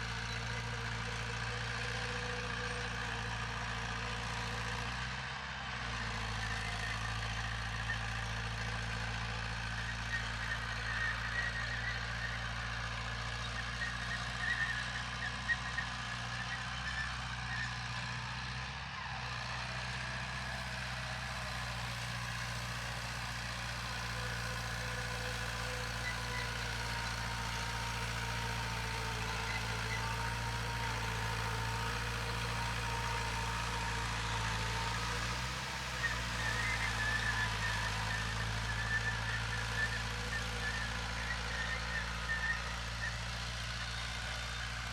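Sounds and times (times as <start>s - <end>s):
diesel machinery engine drone: 0.0s - 44.9s.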